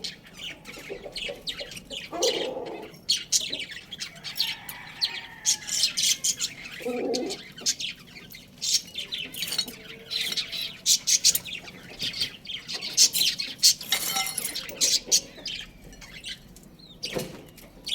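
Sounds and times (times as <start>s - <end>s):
birds chirping: 0.0s - 17.9s.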